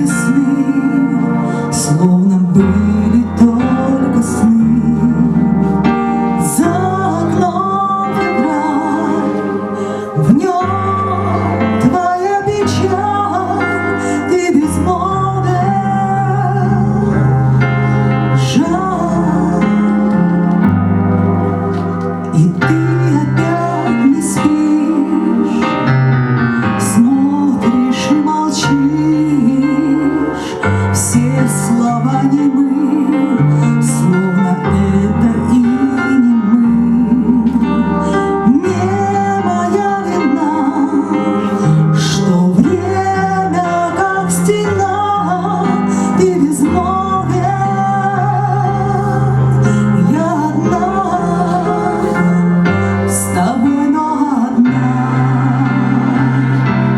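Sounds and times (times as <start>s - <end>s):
woman singing a pop ballad: 0.0s - 20.6s, 22.3s - 25.9s, 26.7s - 56.8s
bass and keyboard chords: 0.0s - 56.9s.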